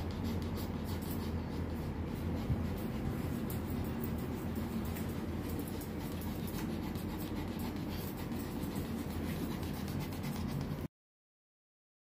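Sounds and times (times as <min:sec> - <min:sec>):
metal comb scratching through fur: 0:00.0 - 0:10.9
steady low hum: 0:00.0 - 0:10.9.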